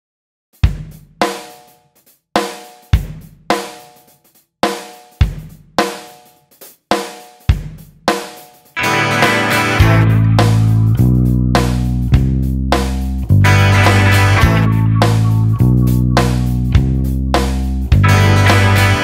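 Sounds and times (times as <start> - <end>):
bass drum and snare strokes: 0.6 - 19.0.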